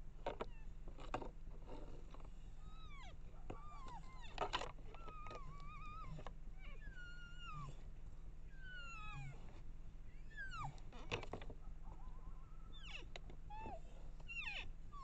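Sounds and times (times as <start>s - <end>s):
coyotes howling and yipping: 2.6s - 15.0s.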